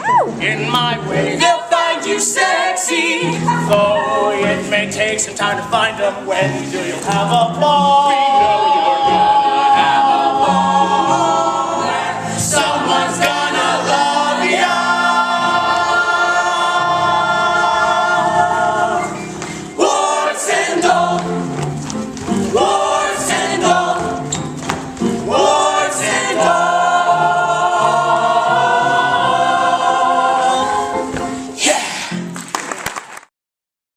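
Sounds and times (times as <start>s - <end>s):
musical accompaniment: 0.0s - 33.3s
group of voices singing: 0.3s - 32.2s.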